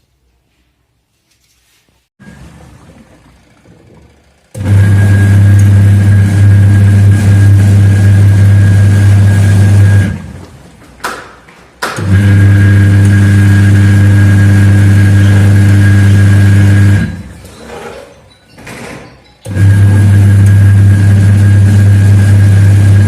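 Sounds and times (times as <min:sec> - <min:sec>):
washing machine motor humming: 0:02.2 - 0:23.0.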